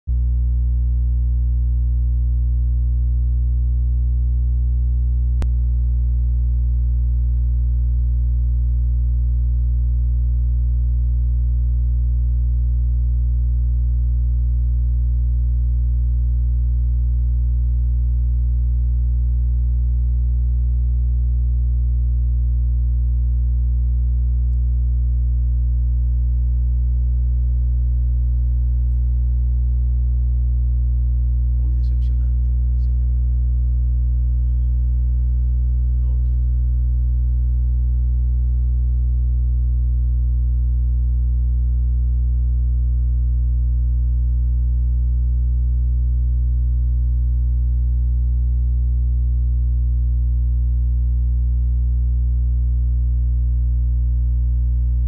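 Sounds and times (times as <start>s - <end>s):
electrical mains hum: 0.1s - 55.0s.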